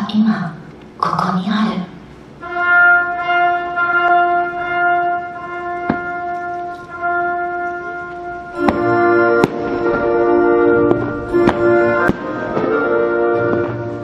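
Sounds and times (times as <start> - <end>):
held musical chord: 2.4 - 14.0.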